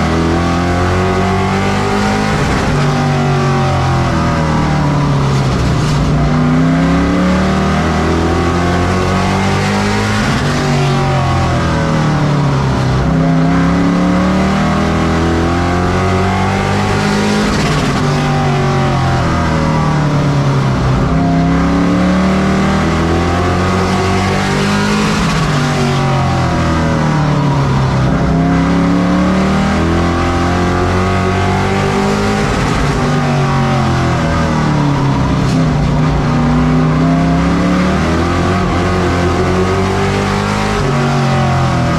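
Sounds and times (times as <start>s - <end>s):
race truck engines racing: 0.0s - 41.9s.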